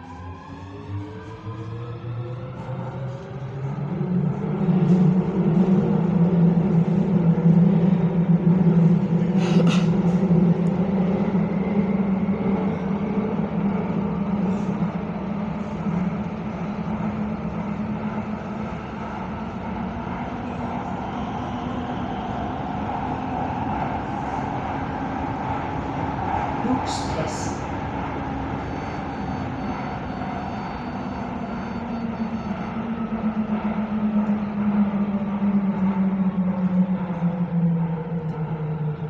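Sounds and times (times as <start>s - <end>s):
metro train rumbling in tunnel: 0.0s - 39.0s.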